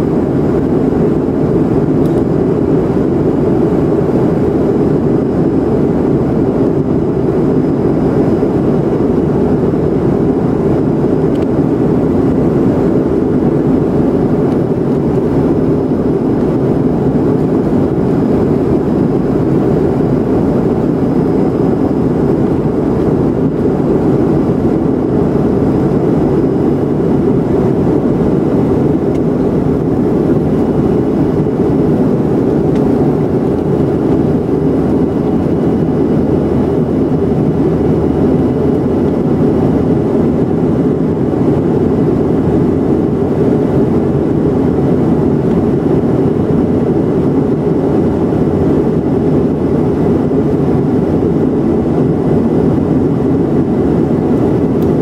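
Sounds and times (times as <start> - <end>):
airliner engine and airflow rush: 0.0 - 55.0.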